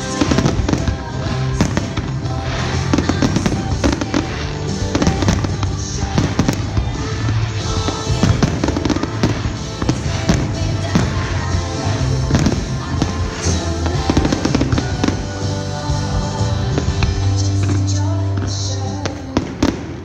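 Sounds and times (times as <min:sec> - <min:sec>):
fireworks bangs: 0:00.0 - 0:20.0
music: 0:00.0 - 0:20.0.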